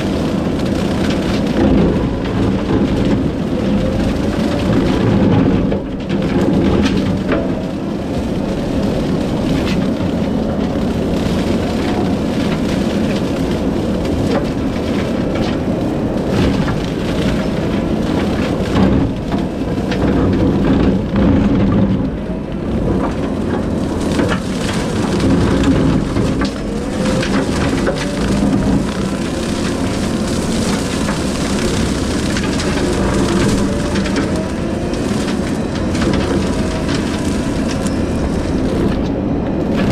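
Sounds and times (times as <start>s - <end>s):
diesel engine running hard: 0.0s - 39.9s
wood cracking and snapping: 0.0s - 39.9s.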